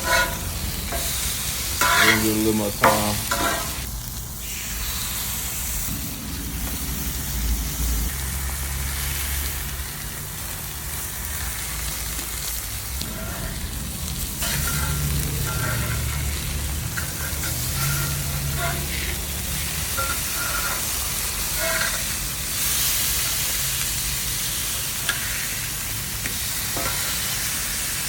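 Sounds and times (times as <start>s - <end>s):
chicken sizzling on a griddle: 0.0s - 28.0s.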